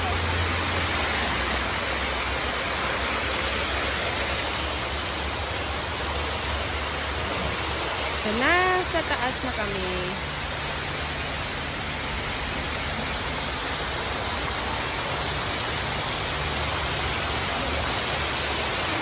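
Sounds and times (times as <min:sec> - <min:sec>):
stream cascading over rocks: 0:00.0 - 0:19.0.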